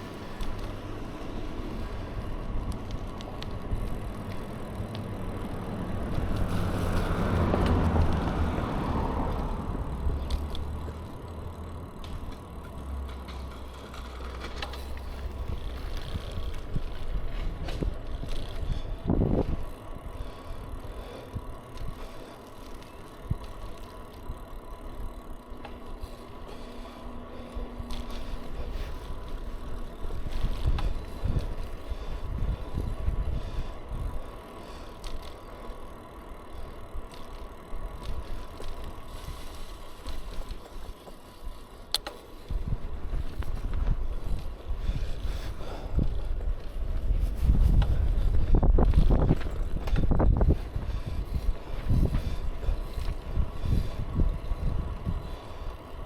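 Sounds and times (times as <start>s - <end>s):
bicycle riding rumble: 0.0s - 56.0s
bike rattles and clicks: 0.0s - 56.0s.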